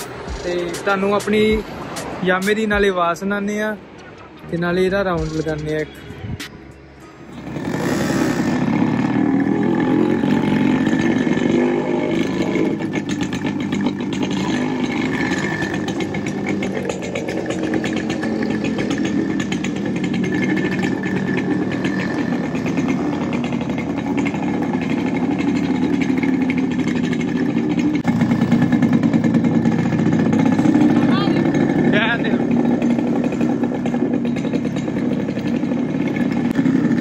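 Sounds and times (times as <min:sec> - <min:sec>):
two-stroke motorcycles running: 0:00.0 - 0:37.0.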